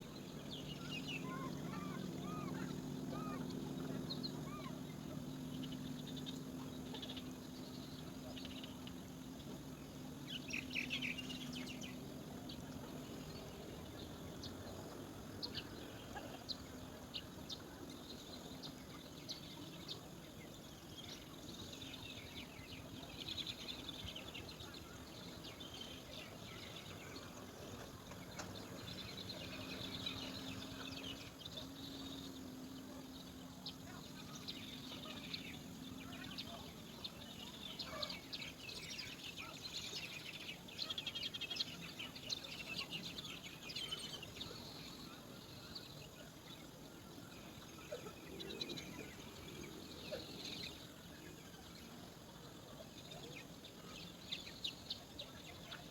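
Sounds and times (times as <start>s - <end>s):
birds chirping: 0.0s - 55.9s
faint low hum: 0.0s - 55.9s.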